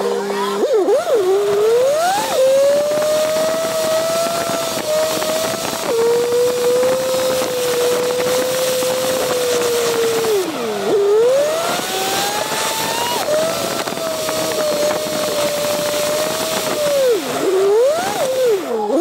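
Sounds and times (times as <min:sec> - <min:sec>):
car engine running at speed: 0:00.0 - 0:19.0
road and wind noise: 0:00.0 - 0:19.0.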